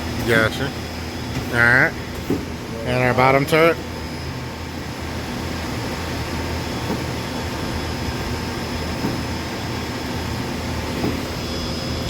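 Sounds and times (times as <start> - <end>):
machine running hum: 0.0 - 12.0.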